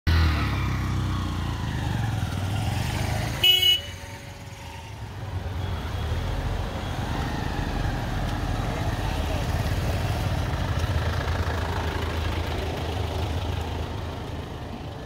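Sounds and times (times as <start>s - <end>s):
vehicle engines running: 0.1s - 15.0s.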